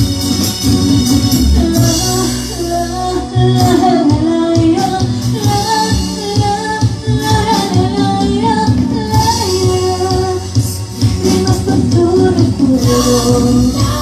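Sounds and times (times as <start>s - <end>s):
ballad with band and singing: 0.0s - 14.0s.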